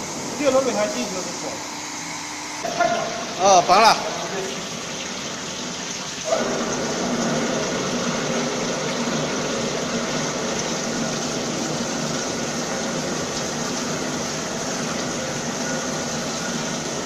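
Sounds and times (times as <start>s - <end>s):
liquid pouring from pipe: 2.7s - 17.0s.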